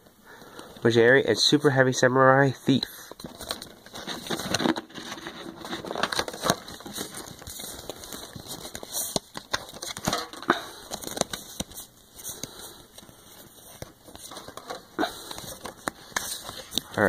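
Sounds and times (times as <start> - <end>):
foil wrapper crinkling: 3.1 - 17.0
trading cards clicking and rustling: 3.1 - 17.0.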